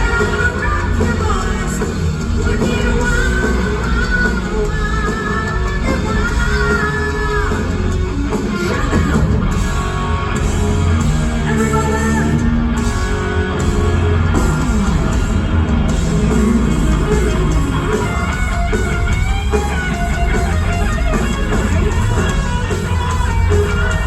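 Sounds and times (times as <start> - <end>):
electric guitar lead: 0.0 - 24.0
live rock band playing: 0.0 - 24.0.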